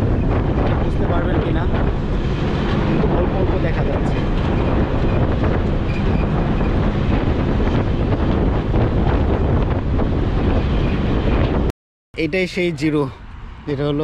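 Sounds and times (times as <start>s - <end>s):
wind noise on microphone: 0.0s - 11.7s
bus engine and road rumble: 0.0s - 14.0s.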